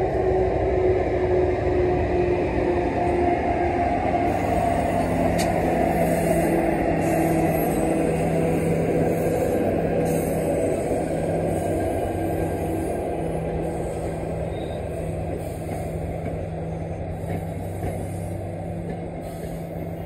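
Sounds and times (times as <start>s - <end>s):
train rumbling by: 0.0s - 20.0s.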